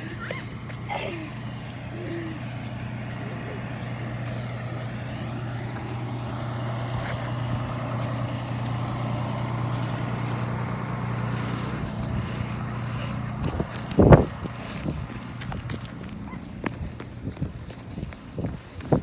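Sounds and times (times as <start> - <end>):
large vehicle engine idling: 0.0 - 19.0.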